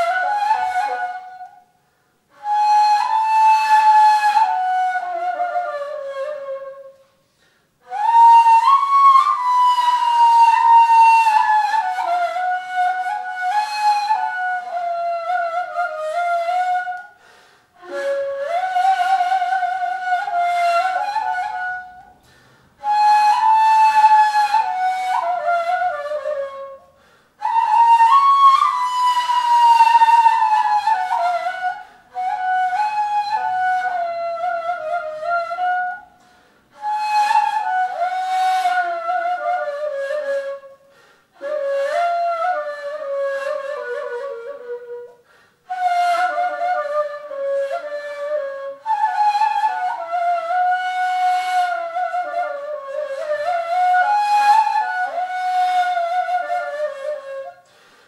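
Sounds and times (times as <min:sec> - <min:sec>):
breathy flute melody: 0:00.0 - 0:58.0.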